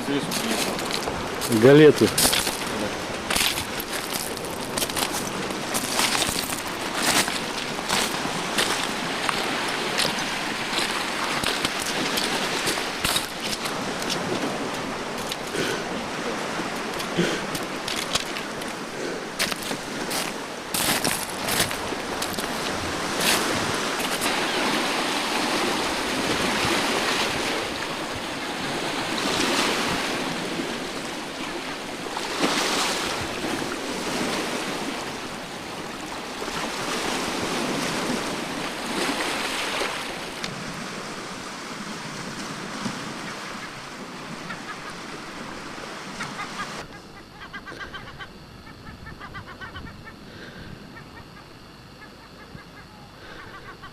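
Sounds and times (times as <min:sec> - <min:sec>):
sea surf washing onto shore: 0:00.0 - 0:46.9
wind: 0:00.0 - 0:53.9.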